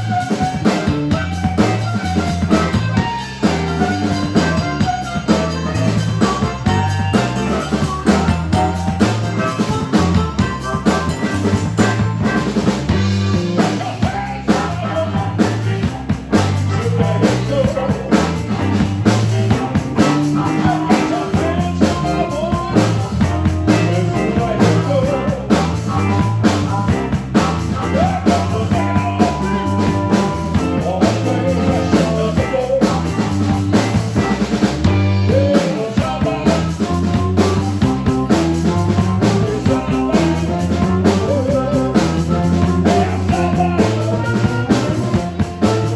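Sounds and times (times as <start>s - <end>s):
drum kit beating: 0.0s - 45.9s
lead melody with bending notes: 0.0s - 45.9s
pulsing bass line: 0.0s - 45.9s
rock band playing live: 0.0s - 45.9s.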